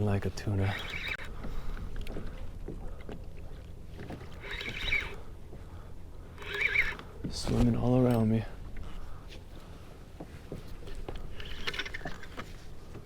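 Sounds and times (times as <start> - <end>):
water sloshing against kayak hull: 0.0 - 8.0, 8.6 - 13.0.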